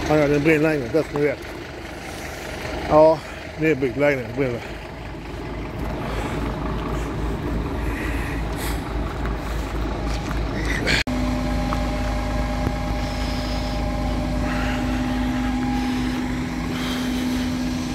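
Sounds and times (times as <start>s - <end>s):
fire truck engines rumbling: 0.0s - 17.9s.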